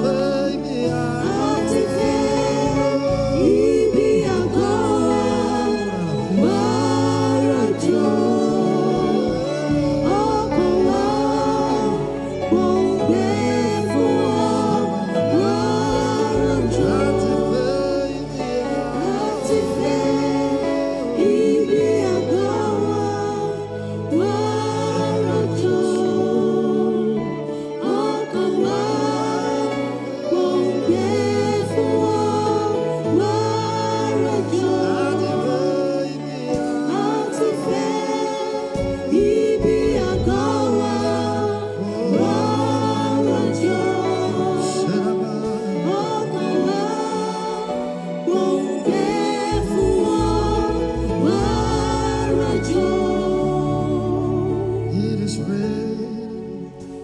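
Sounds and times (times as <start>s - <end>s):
bass and keyboard: 0.0s - 57.0s
gospel singing with choir: 0.0s - 57.0s.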